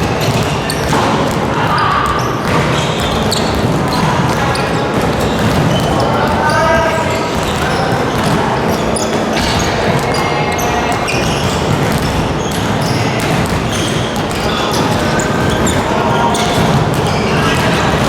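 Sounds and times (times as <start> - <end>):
basketballs bouncing on wooden floor: 0.0 - 18.0
players' voices: 0.0 - 18.0.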